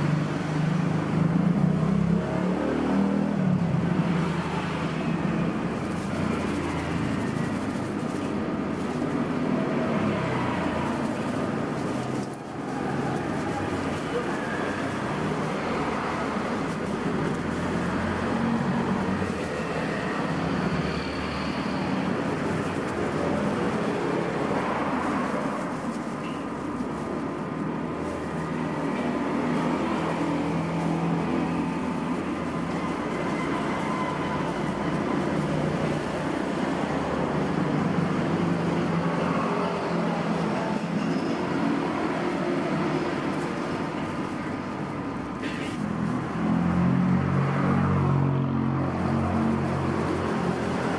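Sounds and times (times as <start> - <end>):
murmur of distant voices: 0.0 - 50.9
passing traffic: 0.0 - 50.9.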